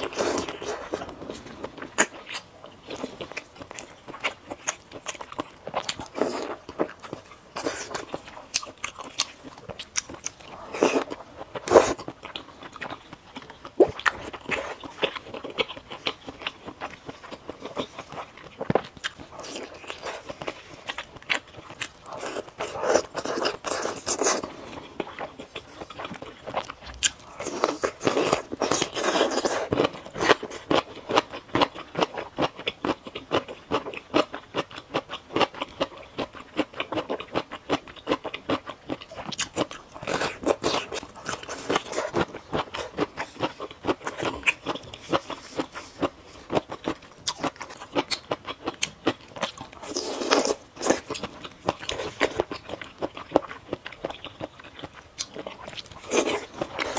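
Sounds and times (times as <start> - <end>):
biting and chewing: 0.0 - 56.9.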